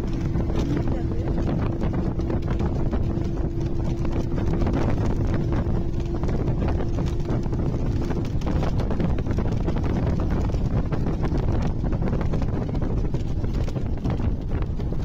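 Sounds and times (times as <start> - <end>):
steady hum: 0.0 - 14.9
moving vehicle rumble: 0.0 - 15.0
wind buffeting microphone: 0.0 - 15.0.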